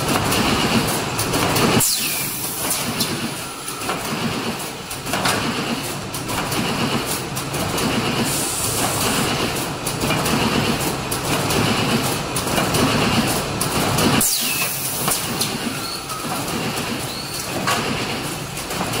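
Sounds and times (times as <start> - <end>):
carton stitching machine clatter: 0.0 - 19.0
sharp machine clicks: 0.0 - 19.0.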